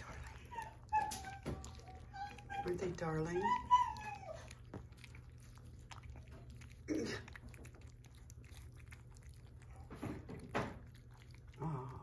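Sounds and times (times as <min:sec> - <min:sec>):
puppies chewing dry kibble: 0:00.0 - 0:12.0.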